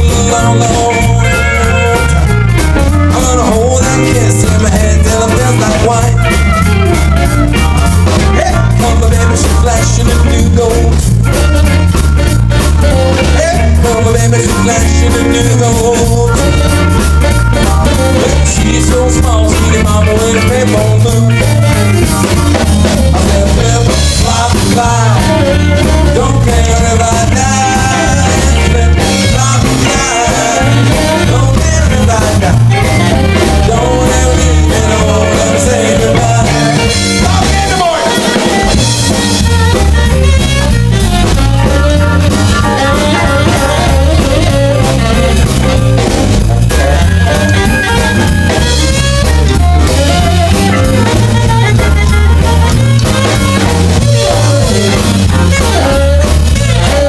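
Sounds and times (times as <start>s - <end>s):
drum kit: 0.0s - 57.0s
electric bass: 0.0s - 57.0s
electric guitar: 0.0s - 57.0s
harmonica: 0.0s - 57.0s.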